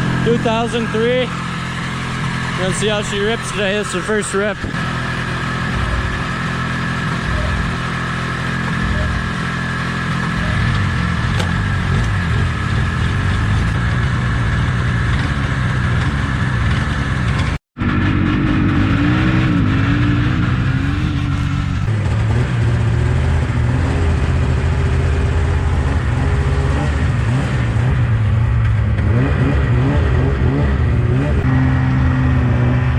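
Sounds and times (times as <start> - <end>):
snowmobile engine revving: 0.0 - 32.9.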